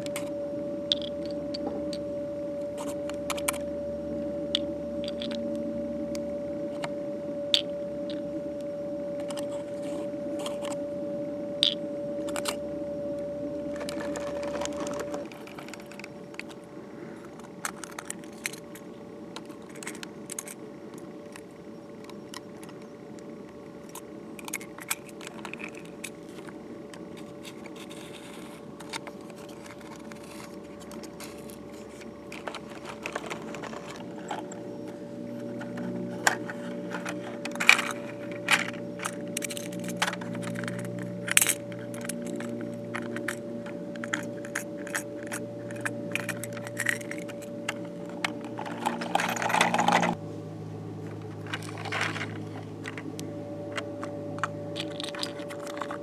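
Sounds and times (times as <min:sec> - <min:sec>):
small clicks and rattles: 0:00.0 - 0:50.2, 0:51.0 - 0:56.0
steady hum: 0:00.0 - 0:56.0.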